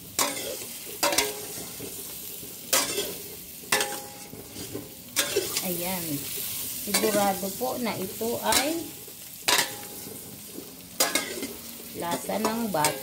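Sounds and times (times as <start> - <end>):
metal scraping on pan: 0.0 - 13.0
potatoes sizzling in butter: 0.0 - 13.0.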